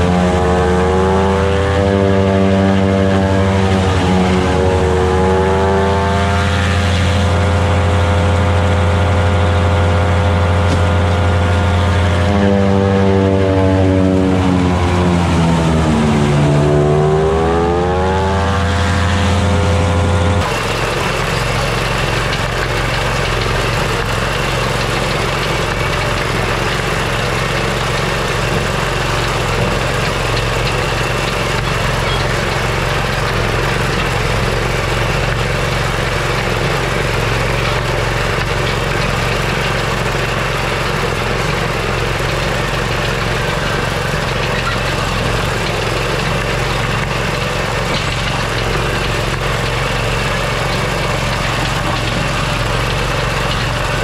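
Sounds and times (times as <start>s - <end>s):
farm machine engine under load: 0.0s - 54.0s.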